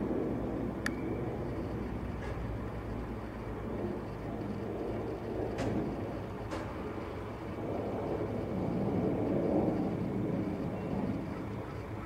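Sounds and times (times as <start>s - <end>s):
jet engines rumbling overhead: 0.0s - 12.0s.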